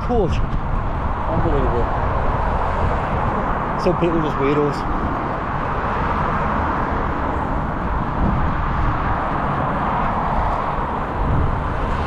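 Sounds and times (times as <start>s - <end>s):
low road rumble: 0.0s - 12.0s
wind rushing over microphone: 0.0s - 12.0s.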